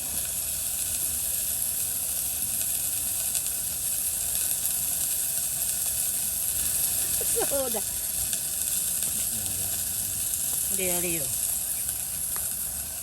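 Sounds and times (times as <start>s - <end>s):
patties sizzling in a pan: 0.0s - 13.0s.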